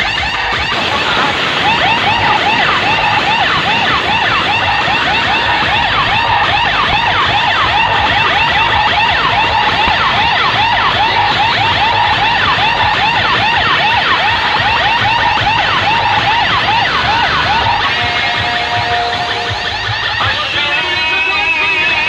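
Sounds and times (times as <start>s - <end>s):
music: 0.0s - 22.0s
siren effect wailing: 0.0s - 22.0s
steady tone: 0.0s - 22.0s
low bass rumble: 0.6s - 20.0s.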